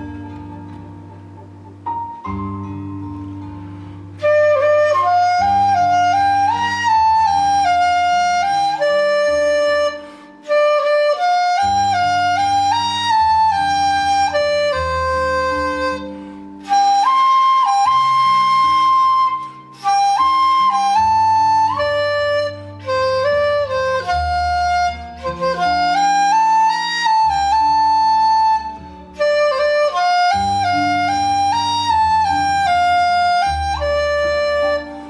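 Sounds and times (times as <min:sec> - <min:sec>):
backing track accompaniment: 0:00.0 - 0:35.0
bamboo flute melody: 0:00.0 - 0:35.0.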